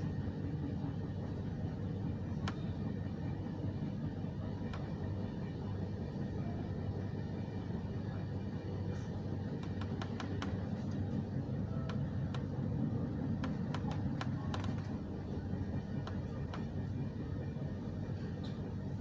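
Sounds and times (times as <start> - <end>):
train rumbling inside carriage: 0.0 - 19.0.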